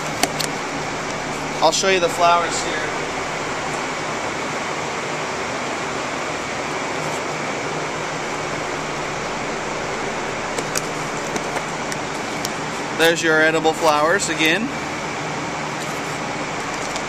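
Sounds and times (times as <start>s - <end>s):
refrigeration fans running: 0.0s - 17.0s.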